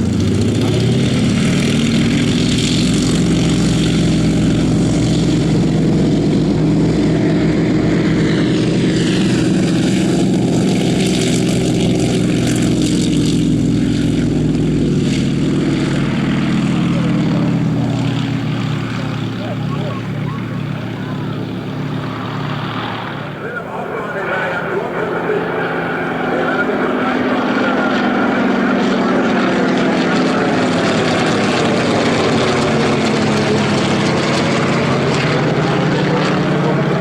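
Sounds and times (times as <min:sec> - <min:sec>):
radial aircraft engine at full power: 0:00.0 - 0:37.0.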